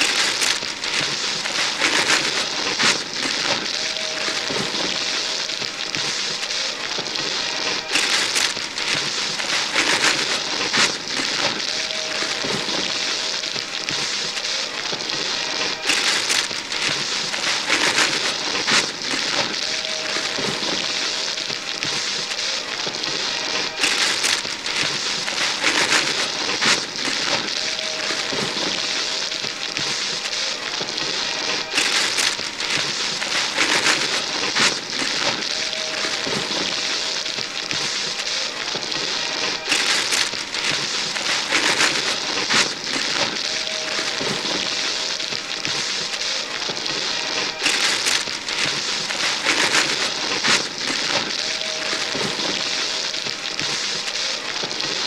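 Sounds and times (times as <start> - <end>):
wrapping paper tearing and crumpling: 0.0 - 55.0.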